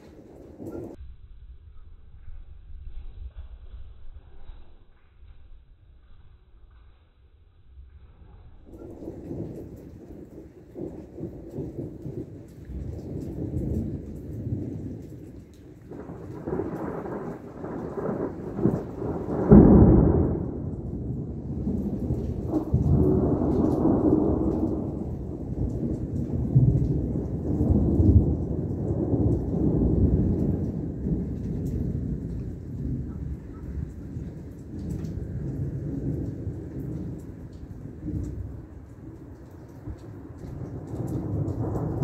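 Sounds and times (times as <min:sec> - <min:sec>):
rolling thunder: 0:00.0 - 0:06.6, 0:07.6 - 0:42.0.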